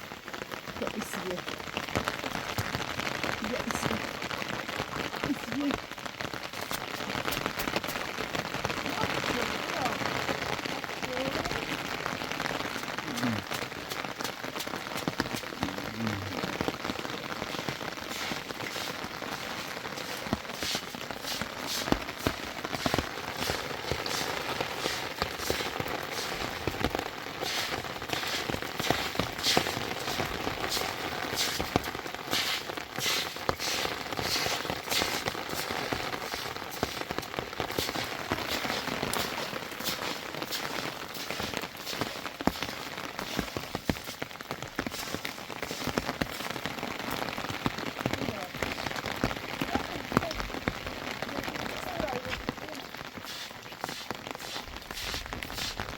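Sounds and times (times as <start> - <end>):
raindrops tapping close by: 0.0 - 55.9
steady rain falling: 0.0 - 55.9.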